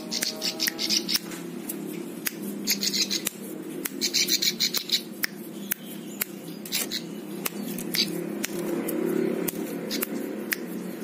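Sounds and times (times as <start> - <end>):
bird singing buzzy bursts: 0.0 - 11.0
sharp clicks: 0.1 - 4.0, 4.6 - 10.7.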